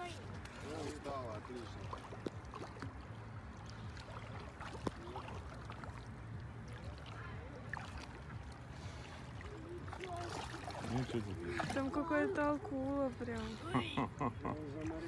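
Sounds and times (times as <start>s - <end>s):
sea water lapping: 0.0s - 15.0s.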